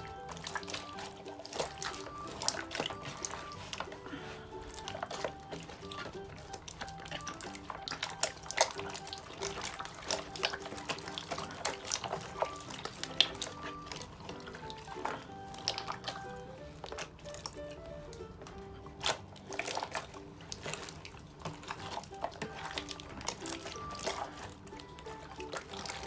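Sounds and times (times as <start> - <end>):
slime squelching: 0.0 - 26.0
soft background music: 0.0 - 26.0.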